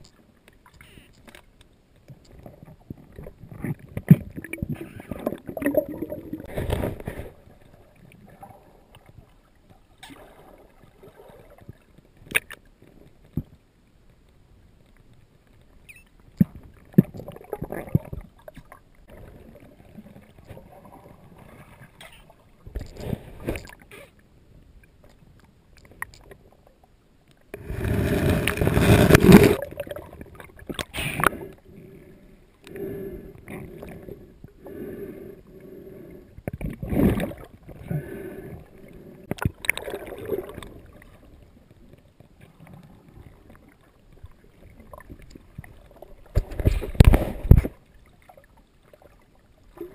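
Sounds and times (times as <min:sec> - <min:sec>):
water sloshing and gurgling: 0:00.0 - 0:14.0, 0:14.8 - 0:49.9.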